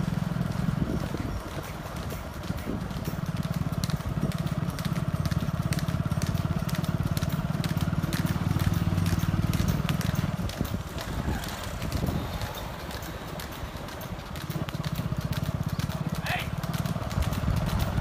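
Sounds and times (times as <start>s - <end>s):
oxen hooves clopping on asphalt: 0.0s - 18.0s
vehicle engine running: 0.0s - 18.0s.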